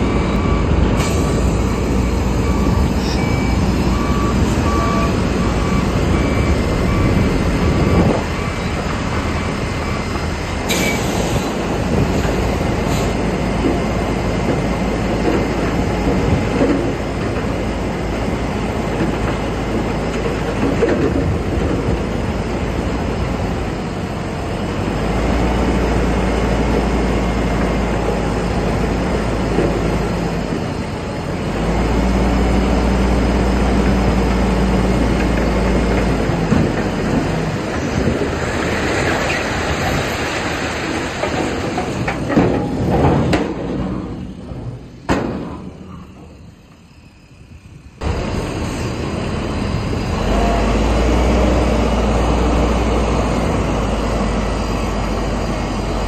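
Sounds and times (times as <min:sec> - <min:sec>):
bulldozer diesel engine running: 0:00.0 - 0:56.0
steel crawler tracks clattering: 0:00.0 - 0:56.0.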